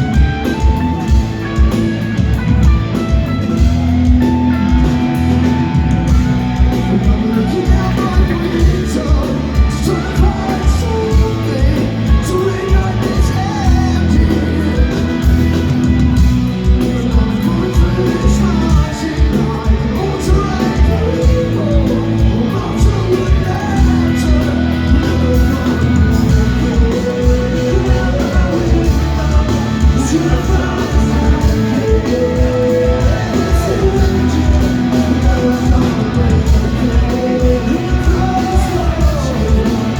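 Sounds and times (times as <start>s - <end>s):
bass guitar: 0.0s - 39.9s
drums: 0.0s - 39.9s
electric guitars: 0.0s - 39.9s
person singing: 3.8s - 39.9s.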